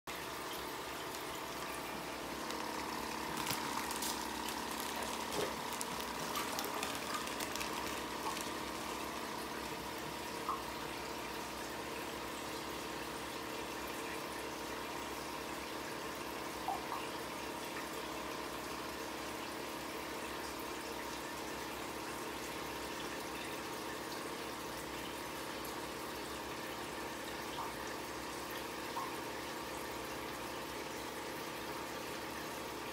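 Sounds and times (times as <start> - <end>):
aquarium water trickling: 0.1 - 32.9
low pump hum: 0.1 - 32.9.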